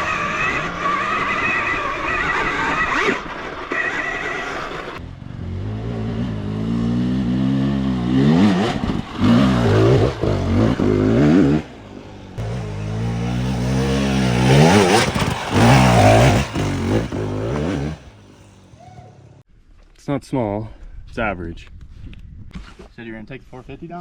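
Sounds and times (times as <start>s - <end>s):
dirt bike engine revving: 0.0s - 19.4s.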